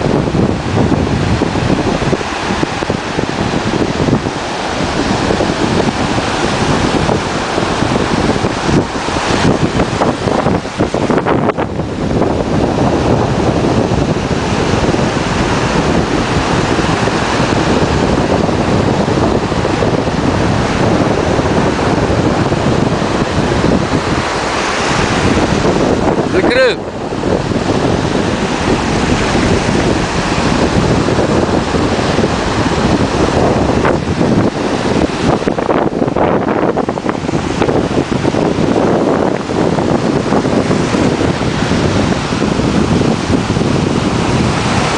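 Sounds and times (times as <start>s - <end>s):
waves breaking on beach: 0.0s - 44.9s
wind buffeting microphone: 0.0s - 44.9s.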